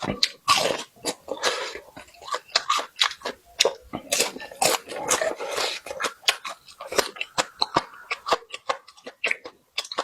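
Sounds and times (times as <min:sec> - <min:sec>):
wet chewing and mouth smacking: 0:00.0 - 0:10.0.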